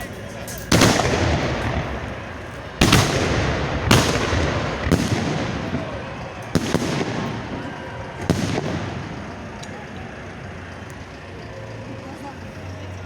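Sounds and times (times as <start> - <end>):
fireworks bangs with echo: 0.0 - 11.8.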